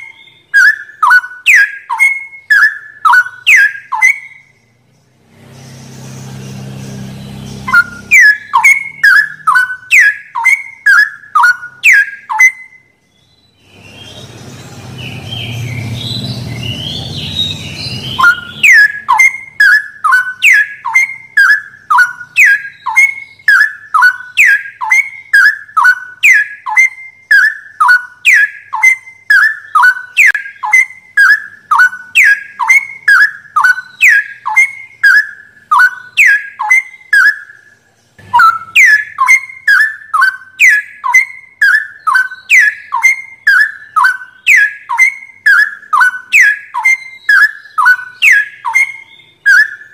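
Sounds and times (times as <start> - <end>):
bird whistling song: 0.0 - 49.9
rough noisy bird calls: 0.0 - 49.9.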